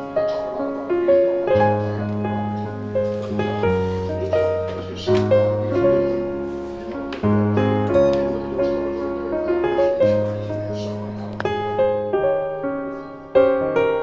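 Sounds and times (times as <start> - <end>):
gentle piano piece: 0.0 - 14.0.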